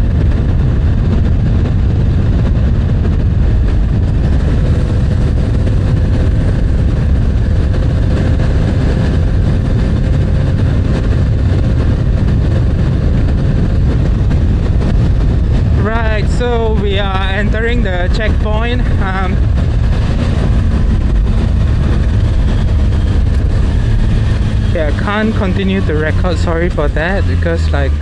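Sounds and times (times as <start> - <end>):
motorcycle engine cruising: 0.0 - 28.0
road and wind noise: 0.0 - 28.0.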